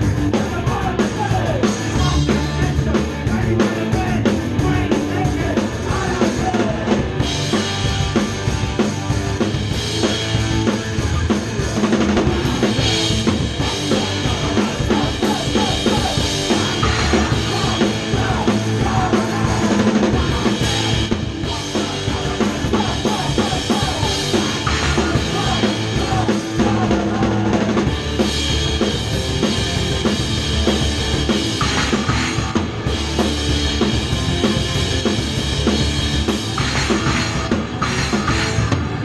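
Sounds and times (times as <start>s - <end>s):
loud close drums: 0.0s - 39.0s
punk rock band playing: 0.0s - 39.0s.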